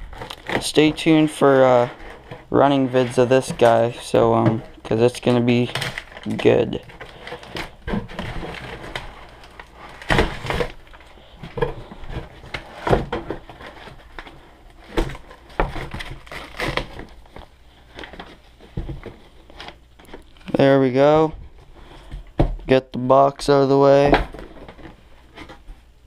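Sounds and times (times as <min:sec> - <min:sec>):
styrofoam and cardboard rubbing: 0:00.0 - 0:21.1.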